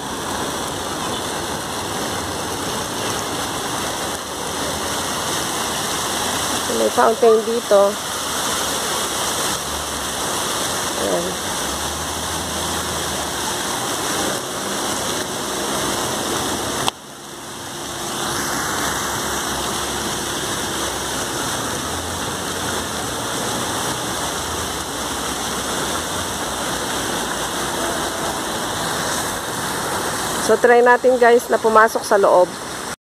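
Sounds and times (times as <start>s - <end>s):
fountain splashing into basin: 0.0s - 33.0s.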